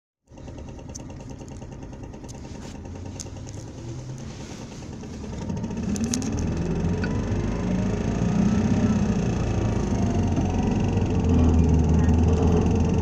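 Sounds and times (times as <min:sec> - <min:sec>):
diesel bus engine idling: 0:00.3 - 0:13.0.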